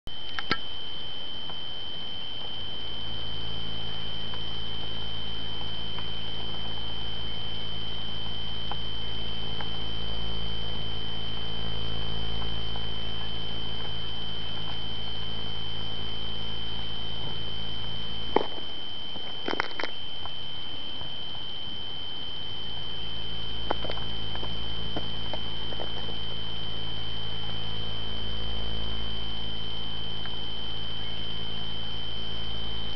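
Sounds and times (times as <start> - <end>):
high-pitched electronic whine: 0.0 - 32.9
low hum: 0.1 - 32.9
steady high-pitched tone: 0.1 - 32.9.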